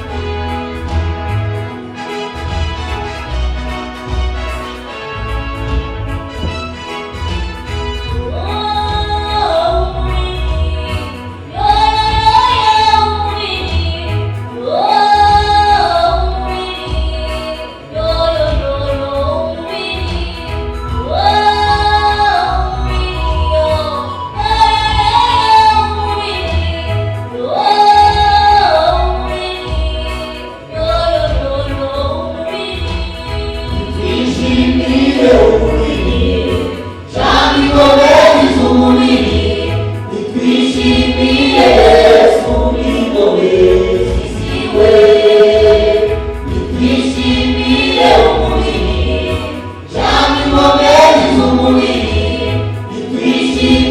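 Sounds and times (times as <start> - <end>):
choir singing gospel: 0.0 - 53.9
instrumental backing with bass: 0.0 - 53.9.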